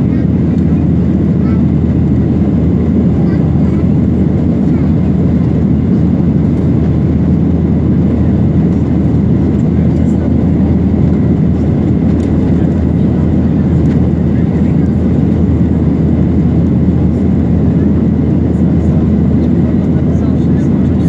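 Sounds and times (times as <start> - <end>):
airliner engine and airflow rumble: 0.0 - 21.0.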